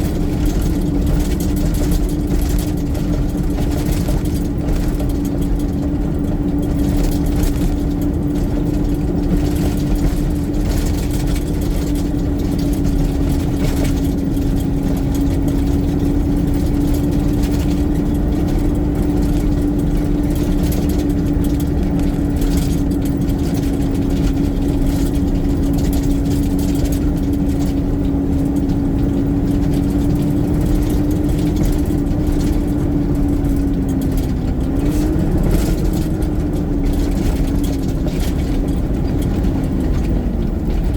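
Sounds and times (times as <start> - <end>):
diesel engine whining and rumbling: 0.0 - 40.9.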